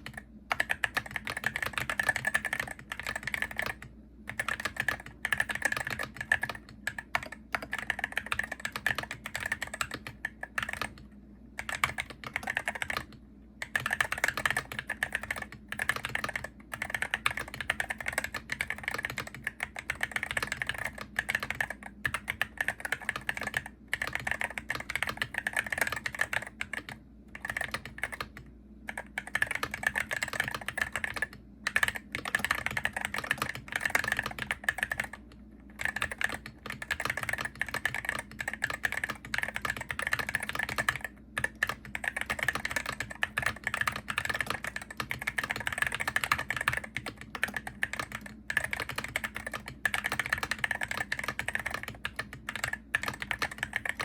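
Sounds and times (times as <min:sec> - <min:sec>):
keyboard typing clicks: 0:00.0 - 0:54.0.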